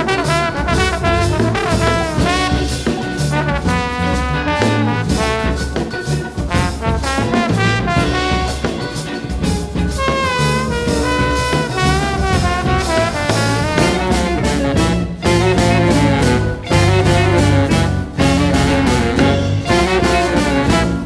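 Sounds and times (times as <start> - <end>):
live jazz band with horns: 0.0 - 21.0.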